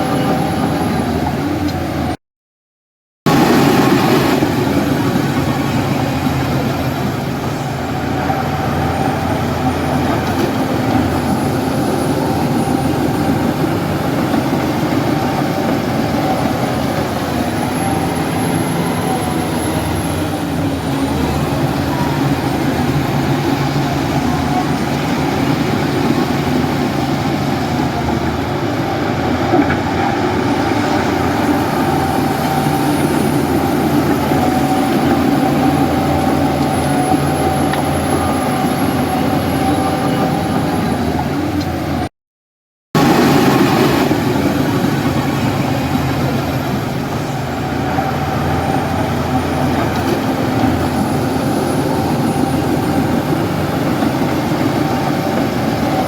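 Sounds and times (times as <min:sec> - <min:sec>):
bulldozer diesel engine running: 0:00.0 - 0:02.2, 0:03.3 - 0:42.1, 0:43.0 - 0:56.0.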